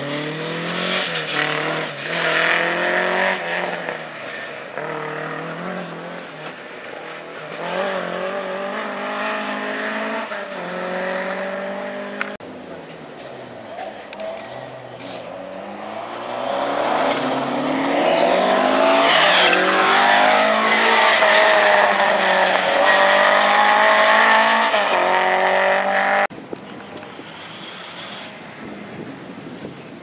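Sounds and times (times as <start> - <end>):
rally car engine revving: 0.0 - 12.4, 13.6 - 26.3.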